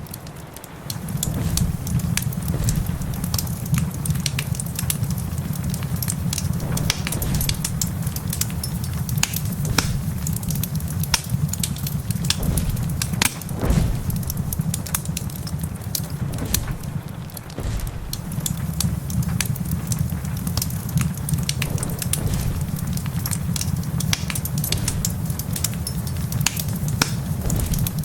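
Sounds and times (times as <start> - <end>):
steady low rumble: 0.0 - 28.0
wood fire crackling: 0.0 - 28.0.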